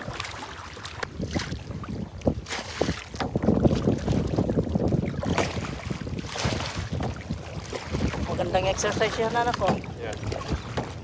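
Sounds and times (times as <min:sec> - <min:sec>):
paddle strokes splashing water: 0:00.0 - 0:11.0
wind rumbling on microphone: 0:00.0 - 0:11.0.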